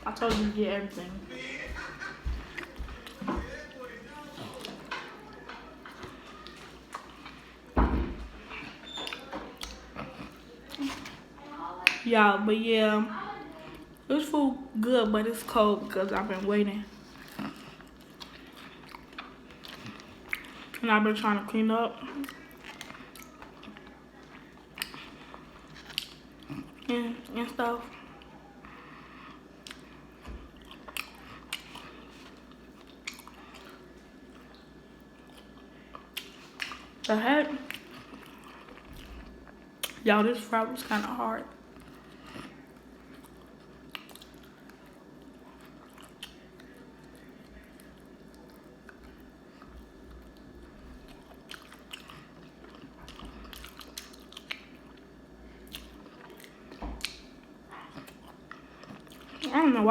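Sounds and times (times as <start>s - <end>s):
chewing fried food: 0.0s - 12.1s, 14.8s - 59.8s.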